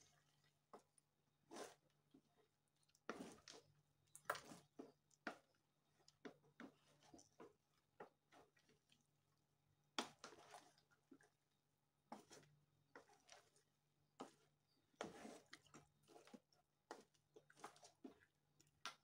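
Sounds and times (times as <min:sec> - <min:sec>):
spatula stirring thick soup: 0:00.0 - 0:19.0.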